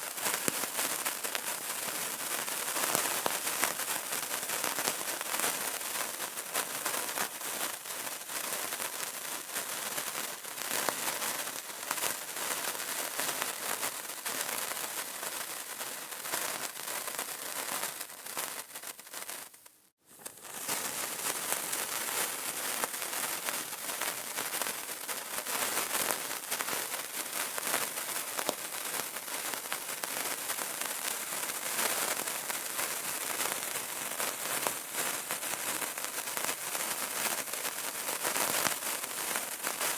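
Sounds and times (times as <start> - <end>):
candle crackling: 0.0 - 39.9.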